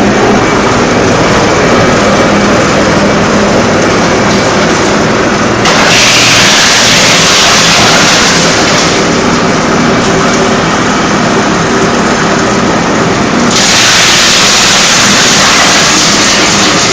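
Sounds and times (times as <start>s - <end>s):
wood chipper running: 0.0s - 16.9s.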